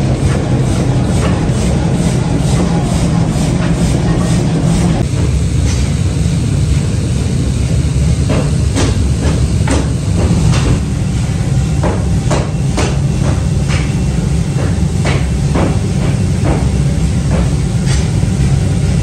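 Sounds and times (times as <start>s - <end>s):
machinery low rumble: 0.0s - 19.0s.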